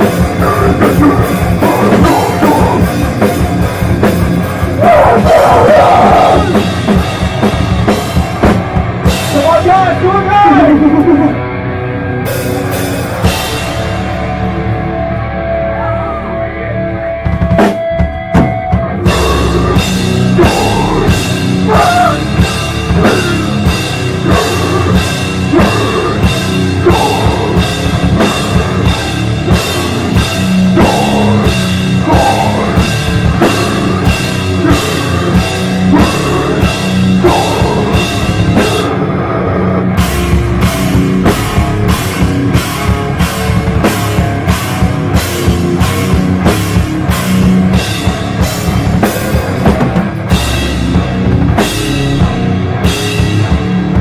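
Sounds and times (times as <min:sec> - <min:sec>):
bass drum: 0:00.0 - 0:11.3, 0:17.2 - 0:39.1, 0:39.8 - 0:54.0
distorted guitars: 0:00.0 - 0:54.0
loud hardcore band: 0:00.0 - 0:54.0.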